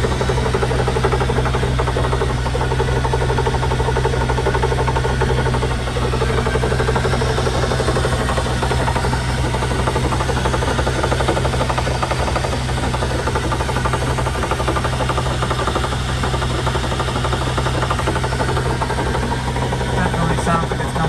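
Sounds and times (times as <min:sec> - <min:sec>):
differential grinding and rattling: 0:00.0 - 0:21.0.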